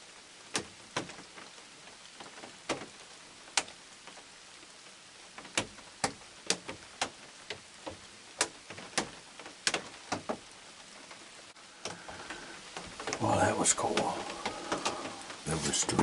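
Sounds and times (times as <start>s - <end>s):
faint rain patter: 0.0s - 16.0s
raindrops tapping hard surface: 0.0s - 16.0s.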